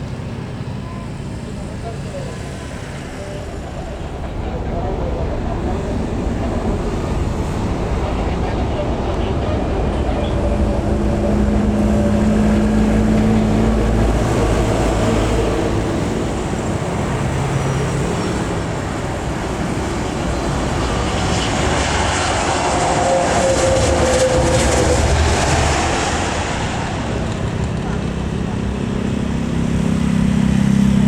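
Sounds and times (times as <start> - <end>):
jet airliner engine noise: 0.0 - 31.0.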